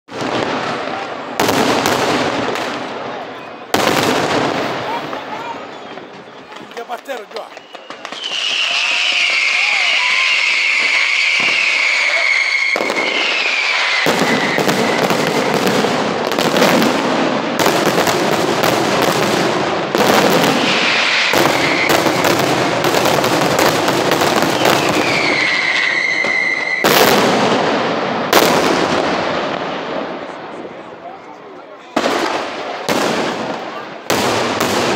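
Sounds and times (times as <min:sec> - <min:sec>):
fireworks whistling: 0:00.1 - 0:30.4
fireworks bangs and crackling: 0:00.1 - 0:34.9
heavy fireworks reports: 0:00.1 - 0:34.9.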